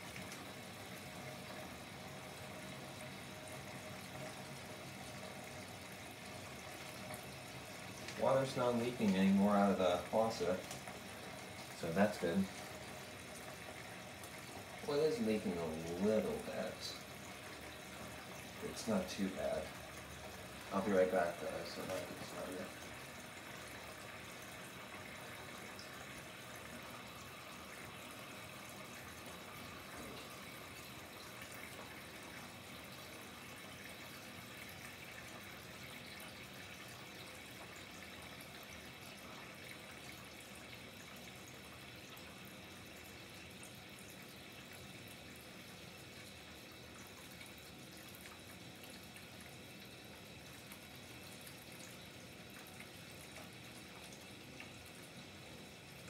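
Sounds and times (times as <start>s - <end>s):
water drips: 0.0s - 56.0s
water trickling from faucet: 0.0s - 56.0s.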